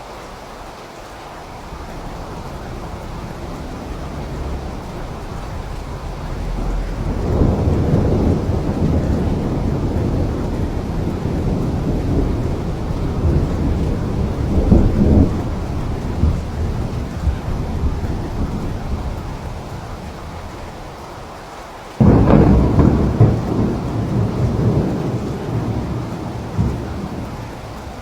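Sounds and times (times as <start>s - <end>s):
steady rain: 0.0s - 28.0s
rolling thunder rumble: 1.5s - 21.3s, 22.0s - 28.0s.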